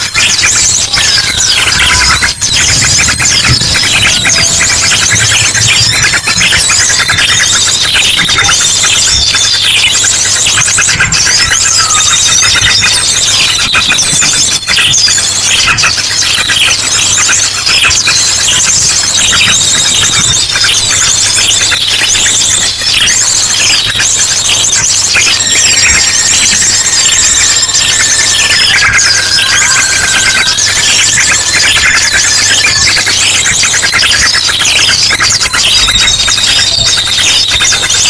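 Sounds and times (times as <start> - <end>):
small birds chirping and trilling: 0.0 - 38.0.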